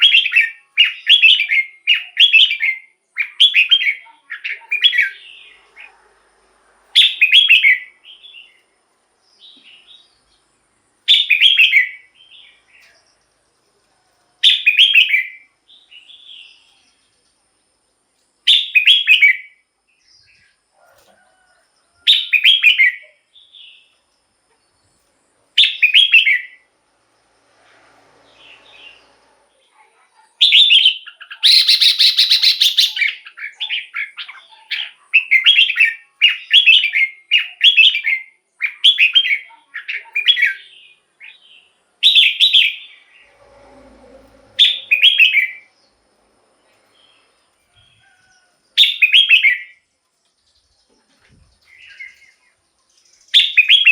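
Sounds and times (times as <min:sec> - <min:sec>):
bird singing: 0:00.0 - 0:06.2, 0:06.9 - 0:26.8, 0:28.2 - 0:53.9.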